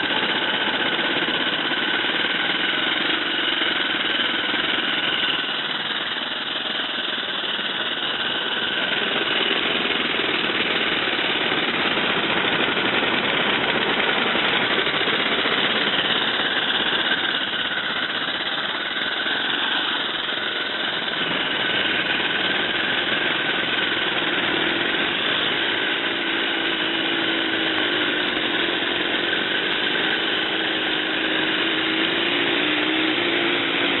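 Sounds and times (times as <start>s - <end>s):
model steam engine hissing: 0.0s - 34.0s.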